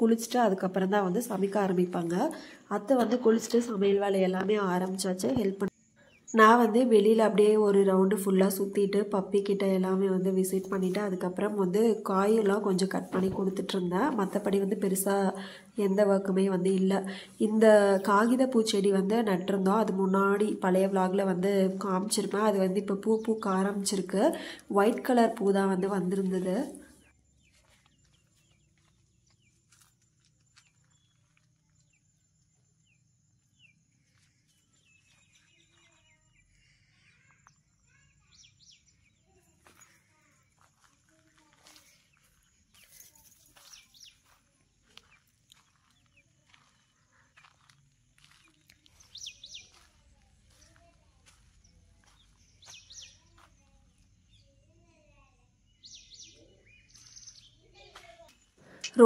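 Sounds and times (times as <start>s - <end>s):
distant bird chirps: 0.0s - 59.0s.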